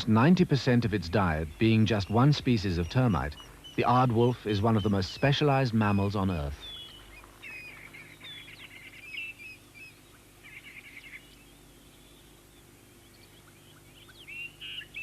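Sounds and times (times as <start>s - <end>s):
small birds chirping and whistling: 0.7s - 15.0s.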